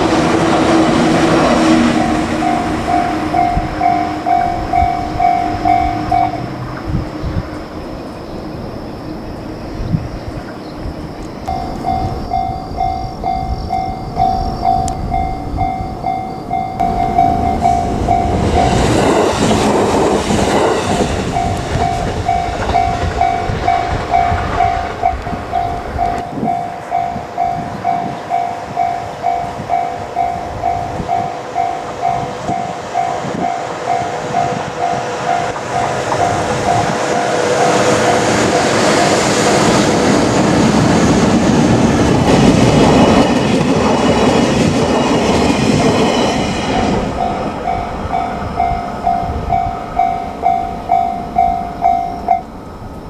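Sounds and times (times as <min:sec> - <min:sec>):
level-crossing warning bell ringing: 0:00.0 - 0:53.0
train passing: 0:00.0 - 0:53.0.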